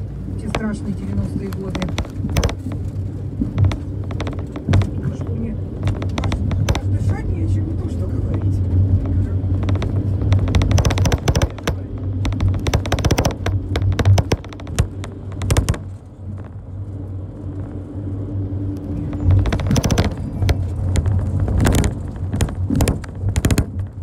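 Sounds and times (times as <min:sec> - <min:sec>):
vehicle engine drone: 0:00.0 - 0:24.0
rapid rattling and knocking: 0:00.4 - 0:16.6, 0:18.9 - 0:24.0.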